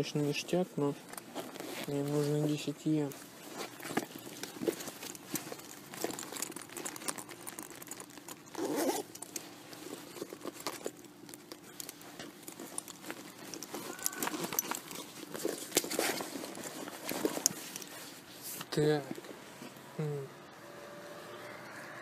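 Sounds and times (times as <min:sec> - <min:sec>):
fabric rustling: 0:00.0 - 0:20.0.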